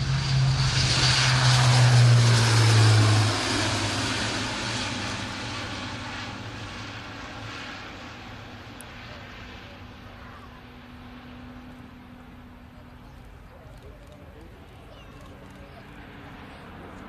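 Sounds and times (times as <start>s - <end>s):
propeller aircraft passing: 0.0s - 17.0s.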